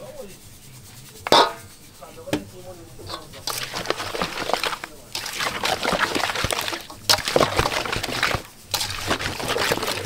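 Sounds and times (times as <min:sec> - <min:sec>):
spoon stirring wet meat: 0:01.1 - 0:10.0.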